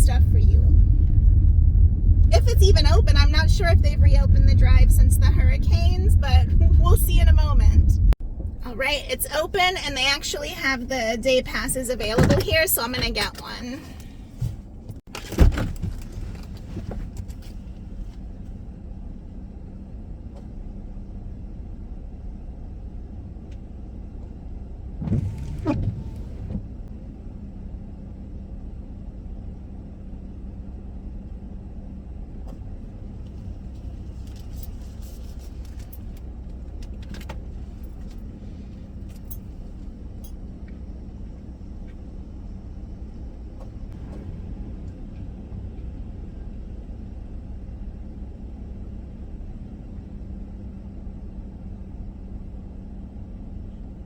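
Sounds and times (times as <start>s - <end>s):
minivan engine hum: 0.0s - 54.0s.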